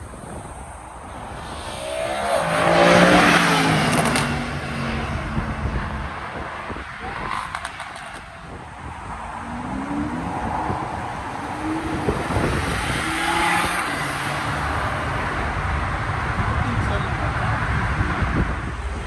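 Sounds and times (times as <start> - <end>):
car engine revving and accelerating: 1.2 - 18.4.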